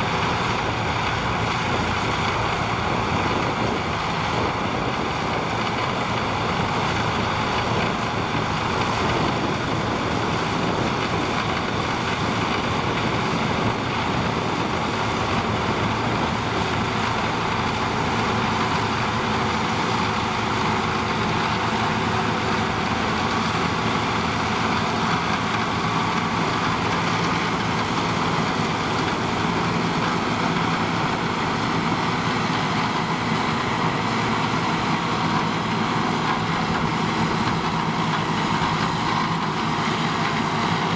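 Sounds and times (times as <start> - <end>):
forage harvester chopping grass: 0.0 - 40.9
second tractor: 0.0 - 40.9
tractor running under load: 0.0 - 40.9.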